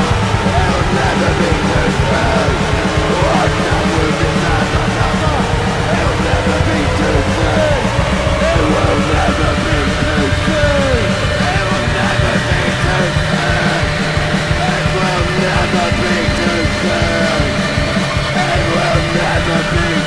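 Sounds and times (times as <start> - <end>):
punk rock band music: 0.0 - 20.0.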